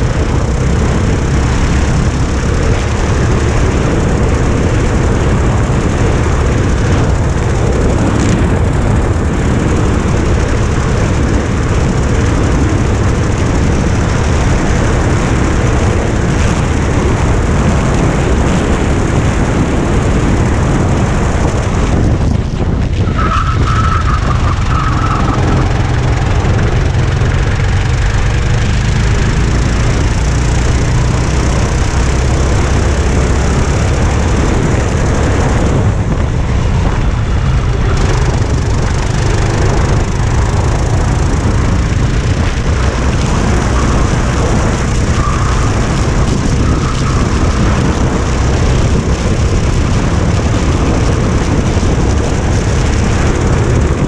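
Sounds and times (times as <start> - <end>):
racing kart engine at speed: 0.0 - 54.0.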